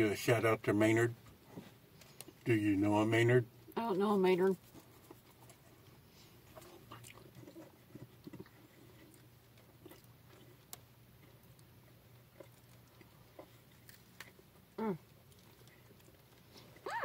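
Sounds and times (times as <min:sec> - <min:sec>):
low steady hum: 0:00.0 - 0:17.0
faint chewing of sandwich: 0:01.2 - 0:02.6, 0:04.5 - 0:17.0.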